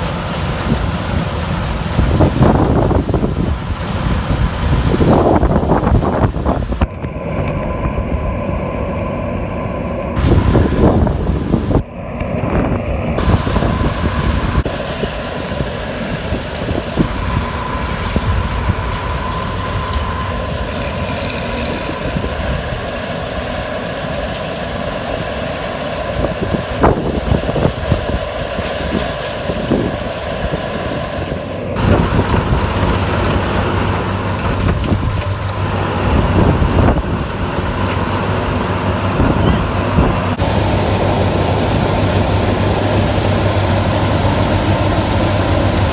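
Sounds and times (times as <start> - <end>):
farm machinery engines: 0.0 - 45.9
low engine hum: 0.0 - 45.9.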